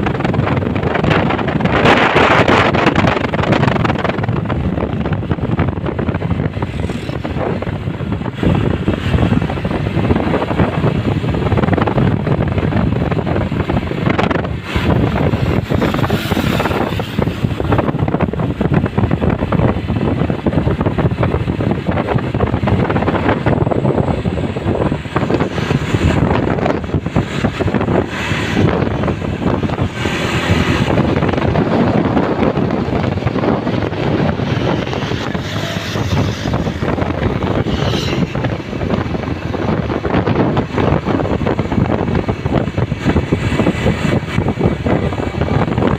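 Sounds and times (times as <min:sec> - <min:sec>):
road vehicles rumbling: 0:00.0 - 0:45.9
wind buffeting microphone: 0:00.0 - 0:45.9.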